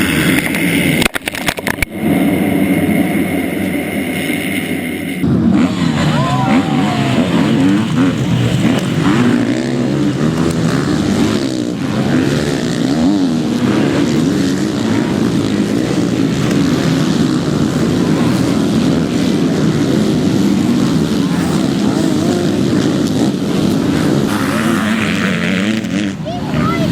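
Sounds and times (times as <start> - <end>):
motocross bikes revving: 0.0 - 26.9.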